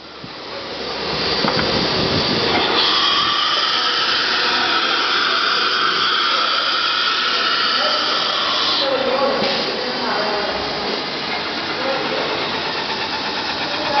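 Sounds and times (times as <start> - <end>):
cnc router machine whine: 0.0 - 14.0.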